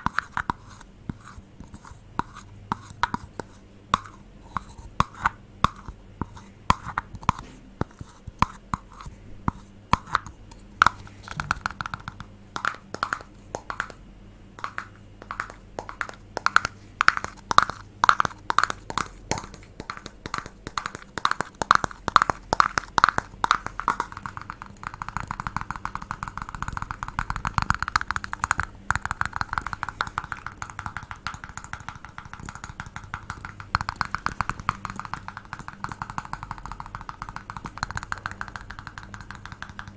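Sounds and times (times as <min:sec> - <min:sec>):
tapping on hard object: 0:00.0 - 0:14.0, 0:14.6 - 0:39.9.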